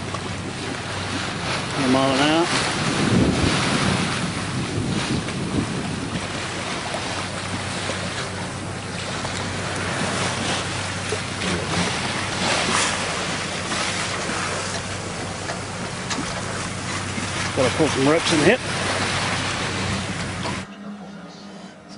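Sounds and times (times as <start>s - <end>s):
water rushing along a hull: 0.0s - 20.7s
wind buffeting the microphone: 0.0s - 20.7s
steady low hum: 4.0s - 21.9s.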